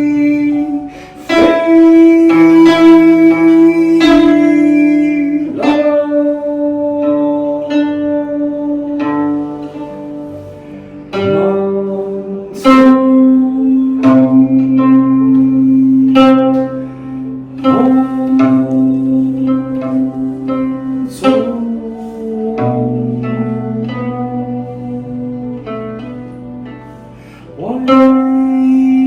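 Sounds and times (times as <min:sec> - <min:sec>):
plucked string instrument melody: 0:00.0 - 0:29.0.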